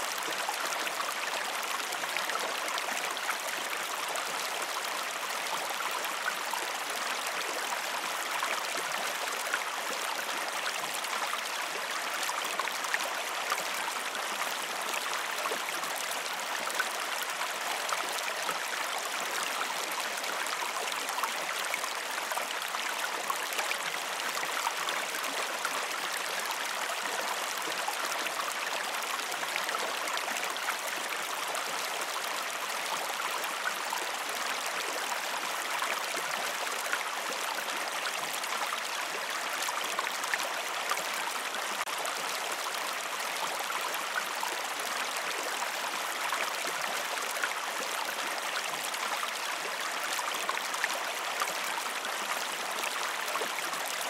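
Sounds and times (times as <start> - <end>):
creek flowing: 0.0 - 54.0.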